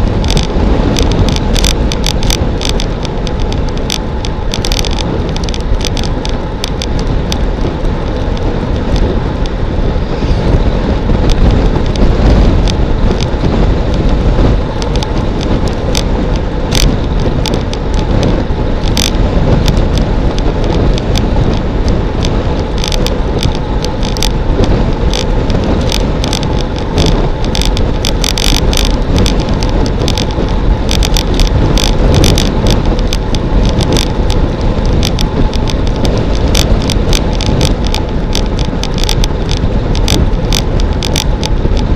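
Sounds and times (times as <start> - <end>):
bike clicks and rattles: 0.0 - 41.9
road rumble: 0.0 - 41.9
wind noise on microphone: 0.0 - 41.9.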